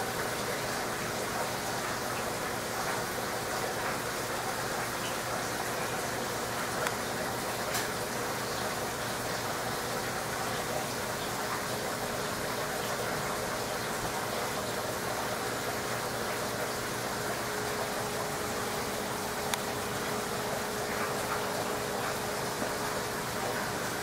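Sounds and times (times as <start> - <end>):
rushing water of aquarium filter: 0.0 - 24.0.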